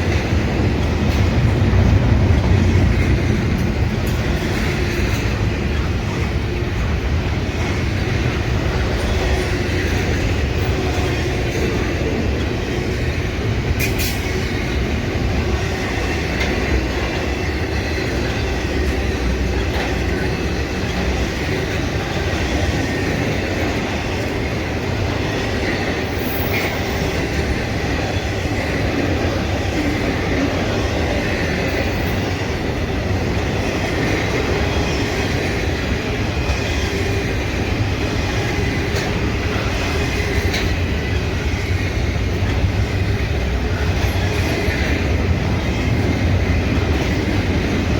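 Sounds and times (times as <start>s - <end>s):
clicking at rail joints: 0.0s - 47.9s
train wheels rumbling on rails: 0.0s - 47.9s.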